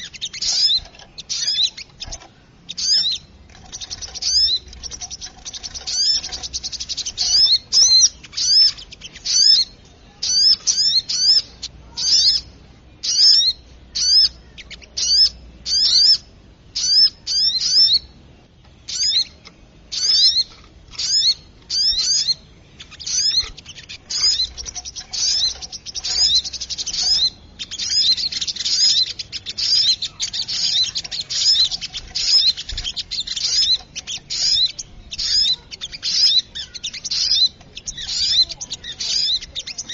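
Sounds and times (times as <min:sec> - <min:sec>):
bird calling sharp chips: 0:00.0 - 0:16.2, 0:18.9 - 0:39.9.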